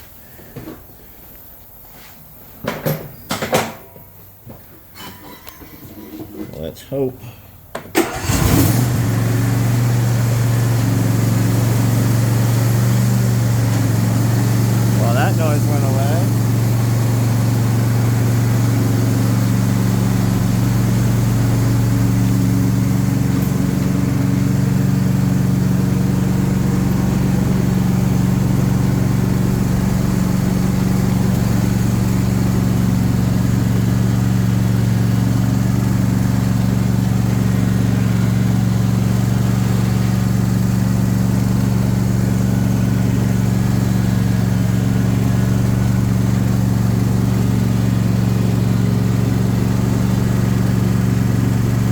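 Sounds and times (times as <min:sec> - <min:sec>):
lawn tractor engine running: 0:07.9 - 0:51.9.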